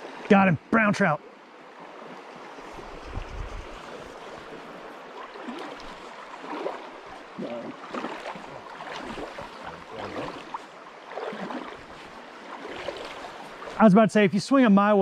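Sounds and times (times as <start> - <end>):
creek flowing over rocks: 0.0 - 15.0.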